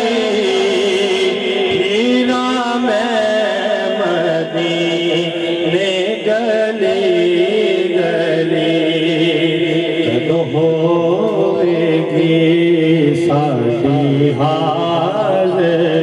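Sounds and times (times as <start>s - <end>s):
man singing devotional song: 0.0s - 16.0s
steady drone: 0.0s - 16.0s.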